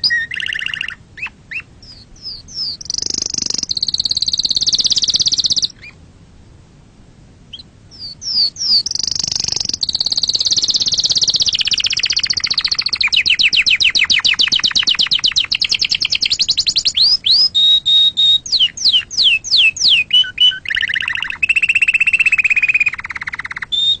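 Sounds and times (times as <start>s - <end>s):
canary singing trills: 0.0s - 6.0s, 7.5s - 24.0s.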